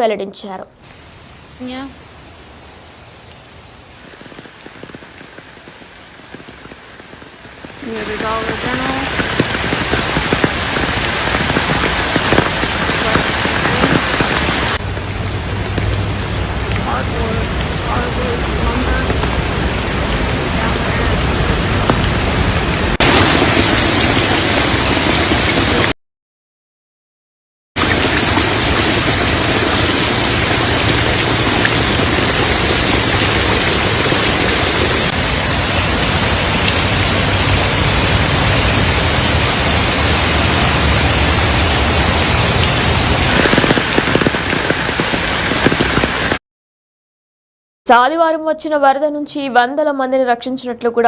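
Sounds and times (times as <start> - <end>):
heavy rain pouring: 0.8 - 26.0, 27.8 - 46.4.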